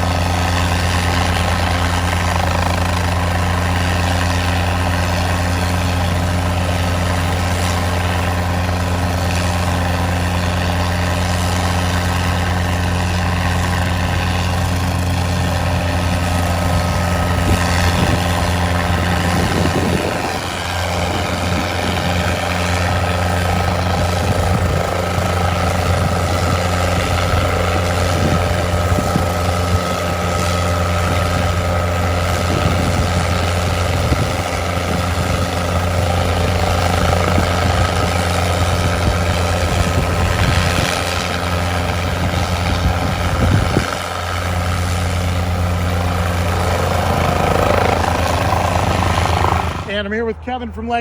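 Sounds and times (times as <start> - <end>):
helicopter rotor and engine drone: 0.0 - 51.0.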